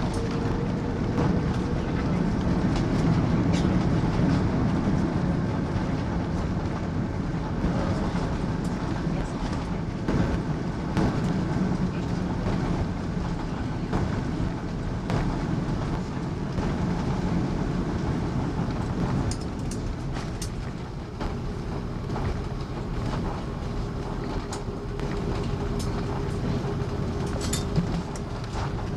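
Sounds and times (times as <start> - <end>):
airliner wheels and engines rumbling: 0.0 - 28.9
steady hum: 0.0 - 28.9.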